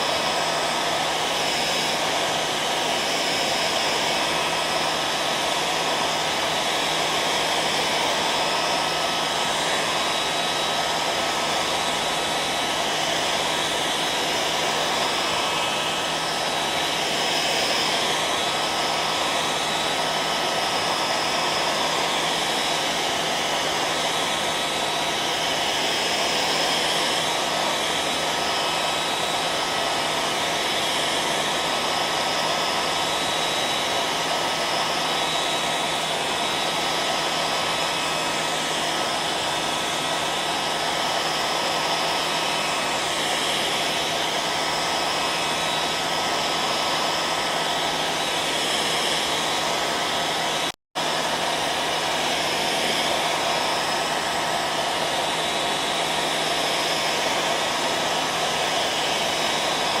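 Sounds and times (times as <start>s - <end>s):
hair dryer running: 0.0s - 60.0s.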